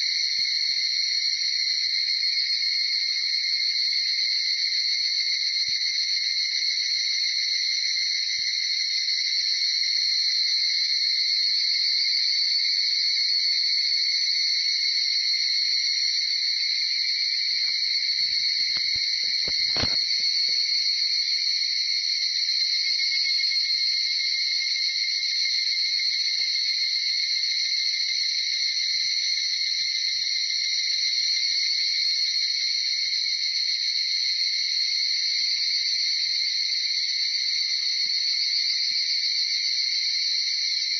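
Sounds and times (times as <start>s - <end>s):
cicadas ringing: 0.0s - 40.9s.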